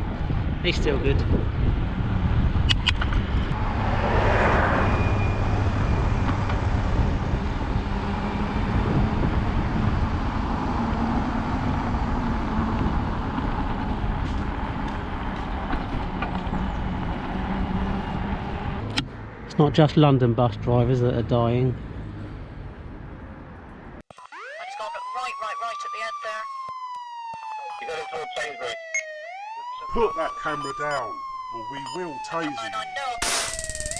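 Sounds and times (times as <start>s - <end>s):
passing vehicles rumble: 0.0s - 24.0s, 29.6s - 33.1s.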